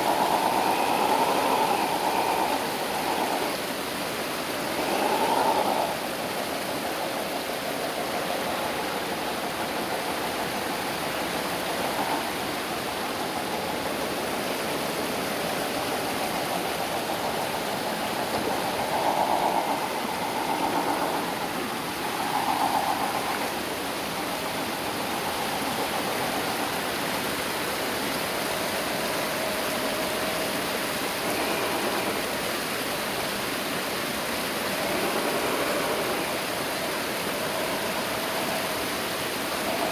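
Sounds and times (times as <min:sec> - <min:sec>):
steady rushing hiss: 0:00.0 - 0:39.9.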